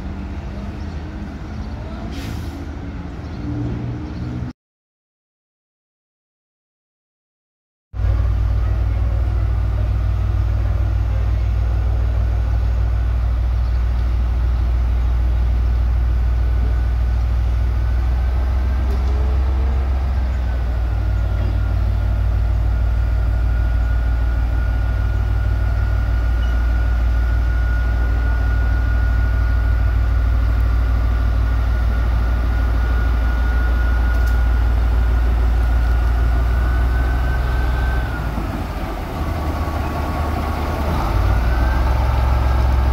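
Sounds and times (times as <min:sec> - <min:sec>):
diesel locomotive engine rumble: 0:00.0 - 0:04.5, 0:08.0 - 0:42.9.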